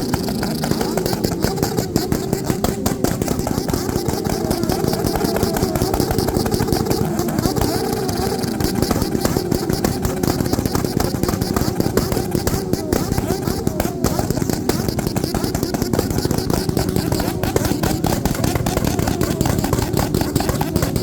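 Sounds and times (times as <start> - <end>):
motorcycle engines revving: 0.0 - 21.0
sharp pops and cracks: 0.0 - 21.0.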